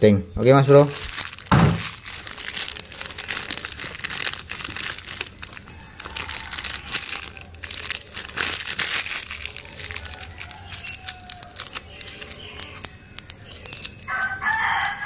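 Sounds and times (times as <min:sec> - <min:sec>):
plastic bag crinkling: 0:00.6 - 0:15.0.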